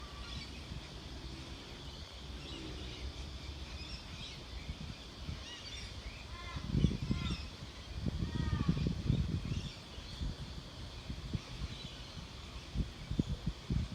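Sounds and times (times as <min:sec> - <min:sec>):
faint bird chirps: 0:00.0 - 0:13.9
steady low rumble: 0:00.0 - 0:13.9.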